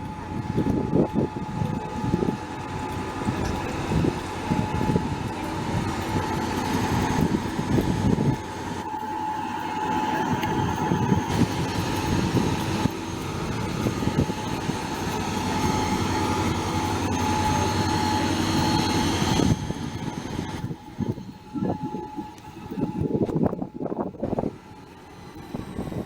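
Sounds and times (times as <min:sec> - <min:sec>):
train rumbling past: 0:00.0 - 0:26.0
train whine: 0:00.0 - 0:26.0.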